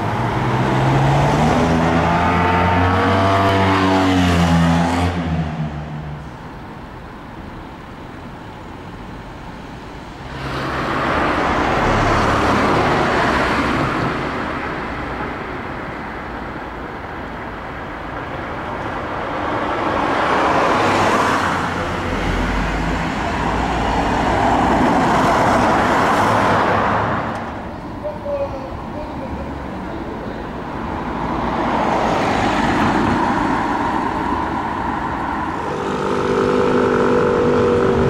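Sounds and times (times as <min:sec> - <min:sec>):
cars passing by: 0:00.0 - 0:38.0.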